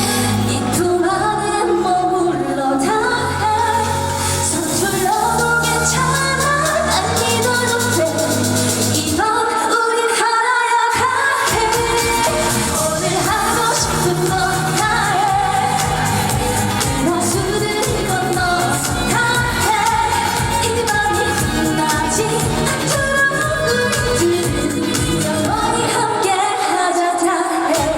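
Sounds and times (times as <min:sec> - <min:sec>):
band backing track: 0:00.0 - 0:09.4, 0:11.4 - 0:26.4
woman singing: 0:00.0 - 0:27.9.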